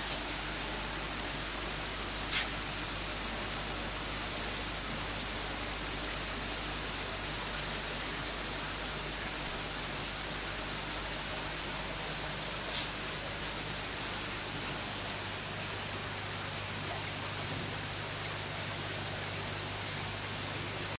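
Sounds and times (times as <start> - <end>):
aquarium filter pump hiss: 0.0 - 21.0
low electrical hum: 0.0 - 21.0.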